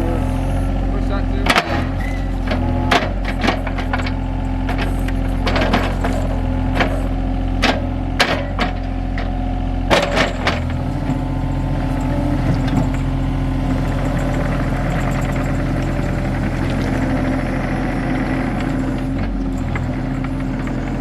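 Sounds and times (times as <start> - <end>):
diesel excavator engine running: 0.0 - 21.0.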